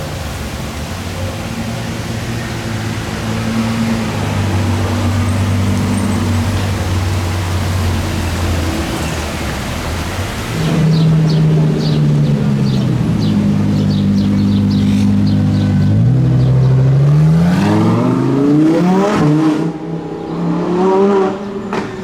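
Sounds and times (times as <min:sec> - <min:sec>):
car engines running at low revs: 0:00.0 - 0:22.0
street traffic: 0:00.0 - 0:22.0.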